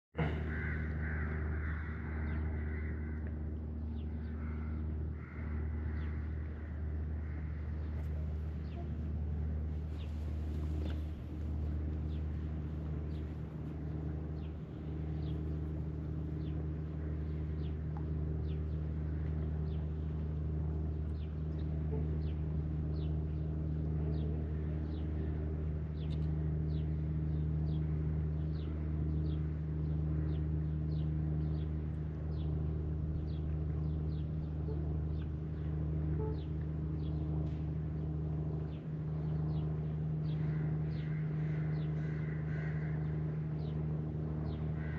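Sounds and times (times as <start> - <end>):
low machine hum: 0.1 - 44.9.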